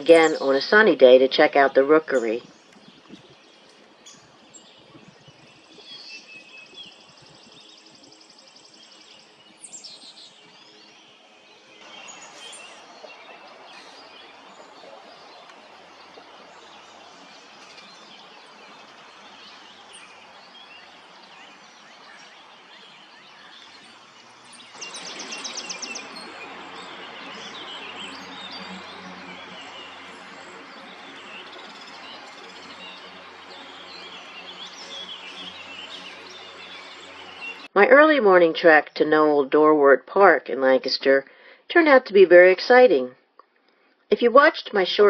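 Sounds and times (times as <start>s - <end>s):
songbirds singing and calling: 0.0s - 39.7s.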